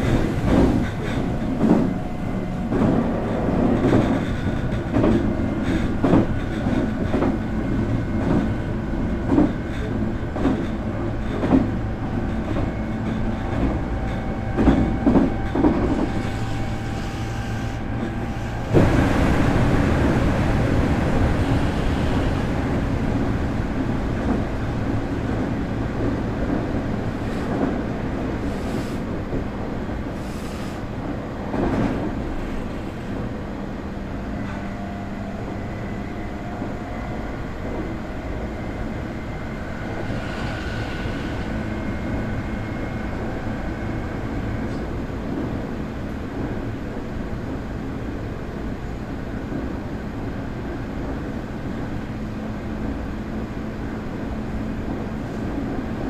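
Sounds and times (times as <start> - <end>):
train running noise rush: 0.0 - 56.0.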